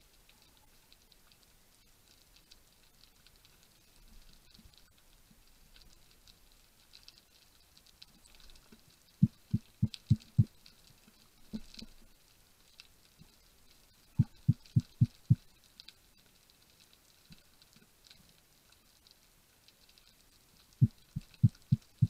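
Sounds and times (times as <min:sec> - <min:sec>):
faint underwater crackle: 0:00.0 - 0:22.0.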